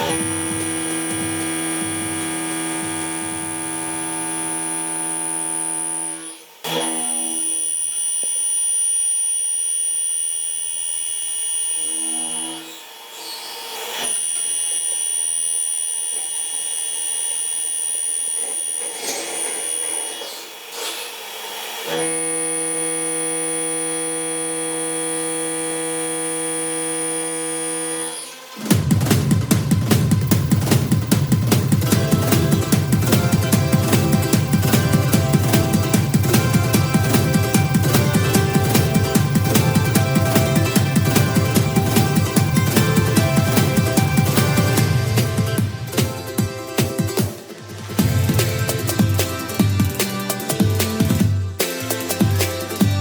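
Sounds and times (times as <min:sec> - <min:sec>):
machine tool hum and whine: 0:00.0 - 0:51.2.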